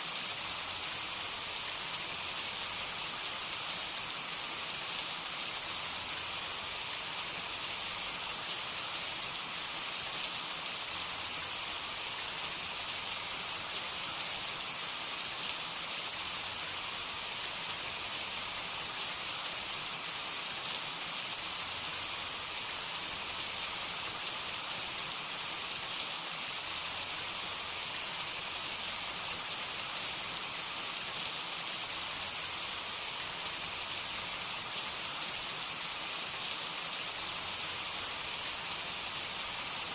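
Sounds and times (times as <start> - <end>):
food deep-frying in hot oil: 0.0 - 39.9.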